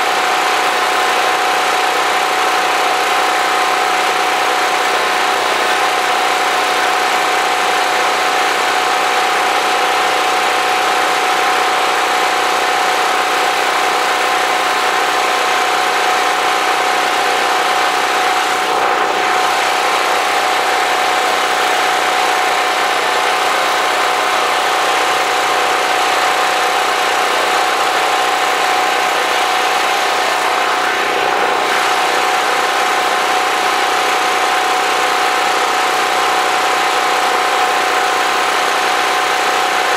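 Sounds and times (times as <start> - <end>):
portable generator engine running: 0.0 - 39.9.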